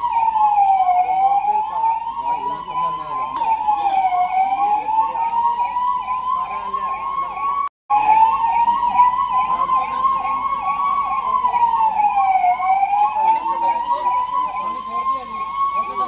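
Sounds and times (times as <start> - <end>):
fast warbling siren: 0.0 - 16.0
wailing siren: 0.0 - 16.0.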